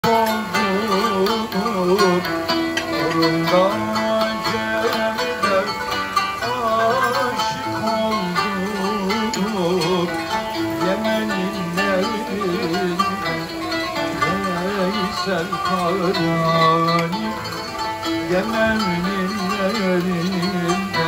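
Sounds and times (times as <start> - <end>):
ornamented melody line: 0.0 - 21.0
plucked strings: 0.0 - 21.0.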